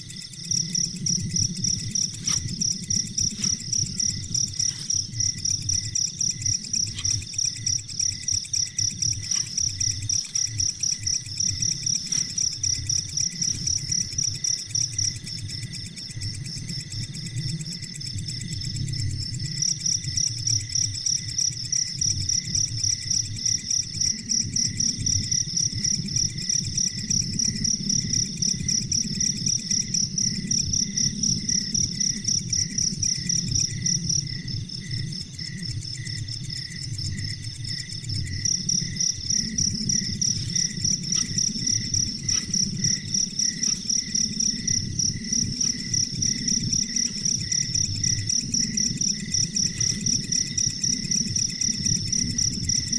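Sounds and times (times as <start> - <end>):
insect chirping: 0.0 - 52.9.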